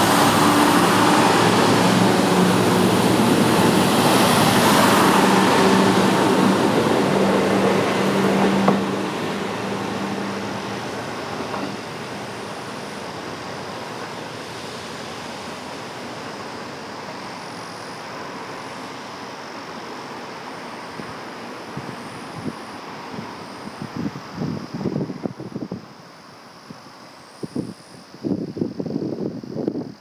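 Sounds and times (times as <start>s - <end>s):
diesel railcar engine drone: 0.0s - 28.2s.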